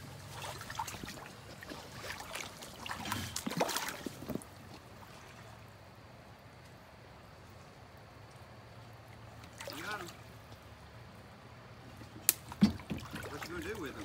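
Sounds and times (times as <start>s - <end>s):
creek water trickling: 0.0s - 14.0s.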